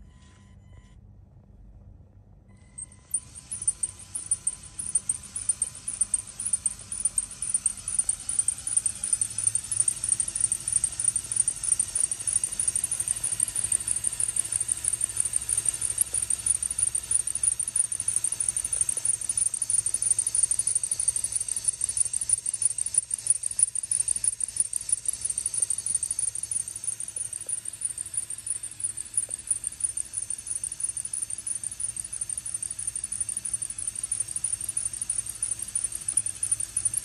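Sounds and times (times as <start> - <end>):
toy drivetrain squeaking: 2.6 - 37.0.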